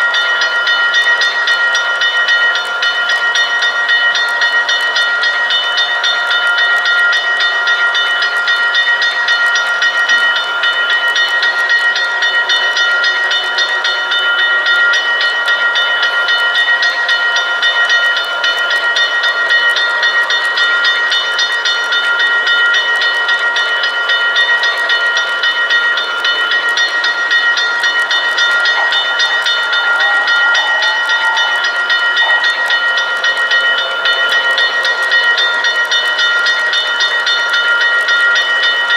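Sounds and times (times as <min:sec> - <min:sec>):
model train humming and ticking: 0:00.0 - 0:38.9.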